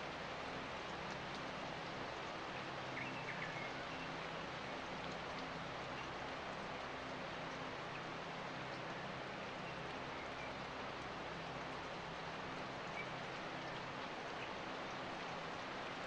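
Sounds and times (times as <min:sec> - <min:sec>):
steady hiss of rain or water: 0:00.0 - 0:16.0.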